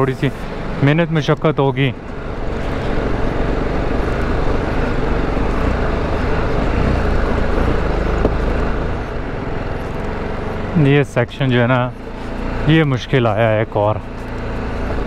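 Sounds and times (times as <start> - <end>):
motorcycle engine under load: 0.0 - 15.0.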